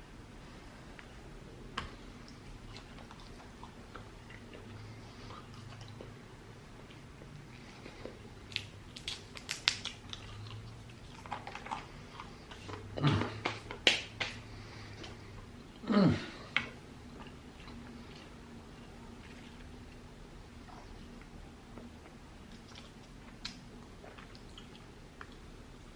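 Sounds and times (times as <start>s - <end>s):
close chewing with wet clicks: 1.8s - 13.7s, 16.5s - 25.9s.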